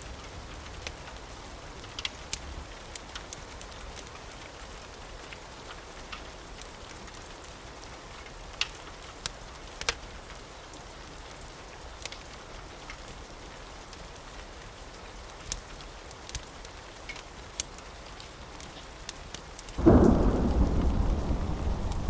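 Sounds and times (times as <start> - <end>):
rain falling: 0.0 - 22.0
wood fire crackling and popping: 0.2 - 10.4, 11.3 - 14.4, 15.0 - 22.0.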